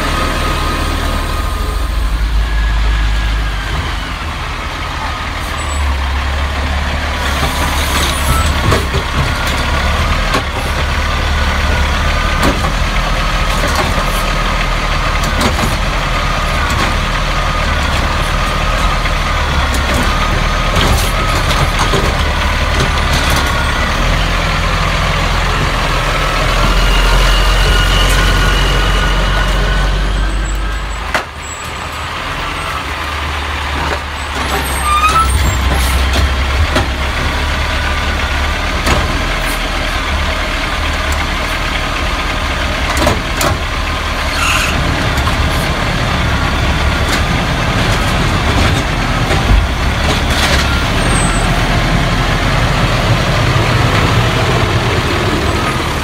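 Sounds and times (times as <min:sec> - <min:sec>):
garbage truck engine rumble: 0:00.0 - 0:56.0.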